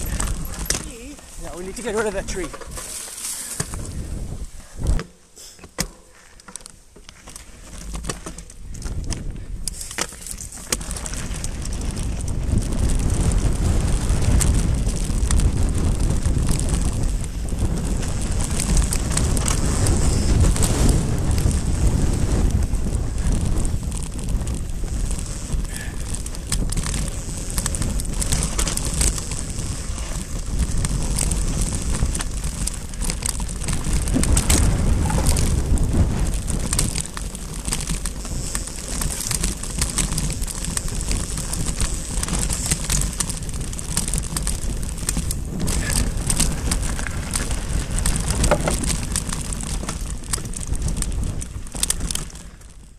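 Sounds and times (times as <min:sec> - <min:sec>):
wind rumble on microphone: 0:00.0 - 0:05.1, 0:07.2 - 0:52.9
bike rattling and clicking: 0:00.0 - 0:52.9
bike tyres crunching on gravel: 0:00.0 - 0:52.9.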